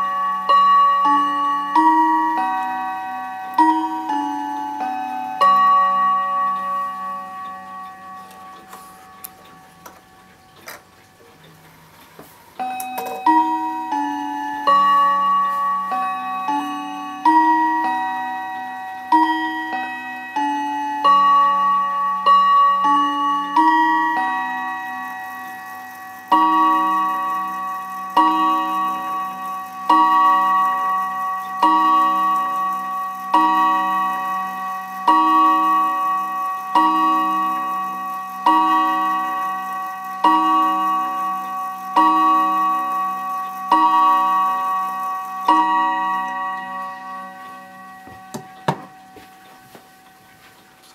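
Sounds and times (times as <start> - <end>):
clock gong striking: 0.0 - 10.4, 12.6 - 50.4.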